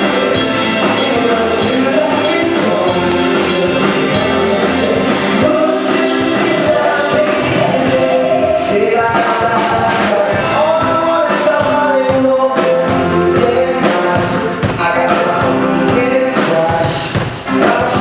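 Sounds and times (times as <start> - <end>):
lead vocal singing: 0.0 - 18.0
live band playing: 0.0 - 18.0
steady drum beat: 0.0 - 18.0.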